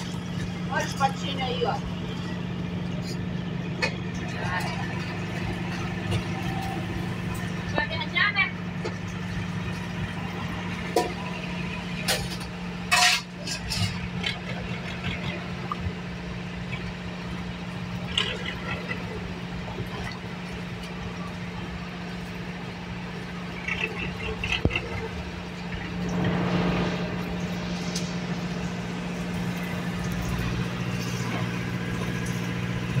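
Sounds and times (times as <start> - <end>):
boat engine humming: 0.0 - 33.0
water lapping and splashing: 0.0 - 33.0.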